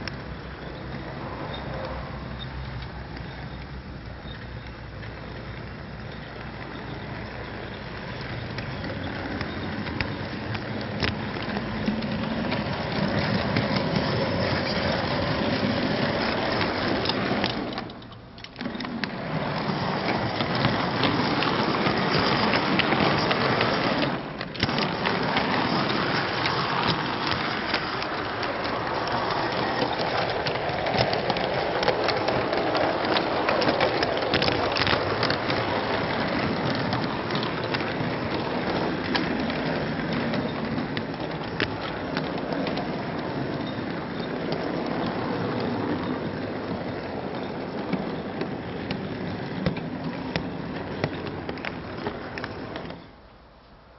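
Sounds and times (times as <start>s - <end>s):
model train wheels rumbling on track: 0.0s - 53.6s.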